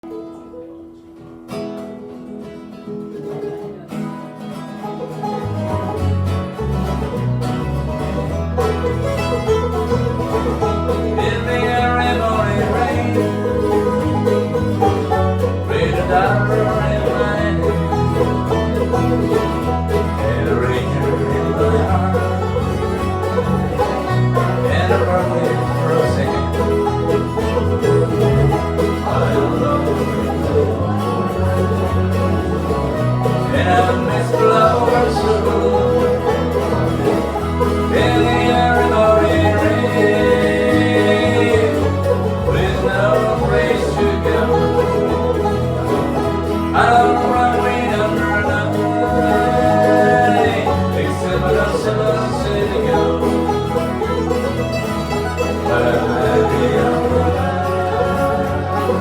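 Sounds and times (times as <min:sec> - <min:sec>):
acoustic guitar: 0:00.0 - 0:59.0
banjo: 0:00.0 - 0:59.0
bluegrass band playing: 0:00.0 - 0:59.0.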